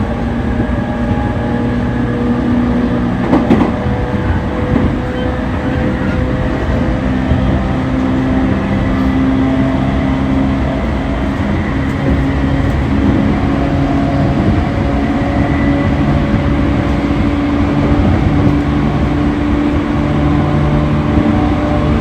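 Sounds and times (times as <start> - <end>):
electric train rumble: 0.0 - 22.0
humming tones: 0.0 - 22.0.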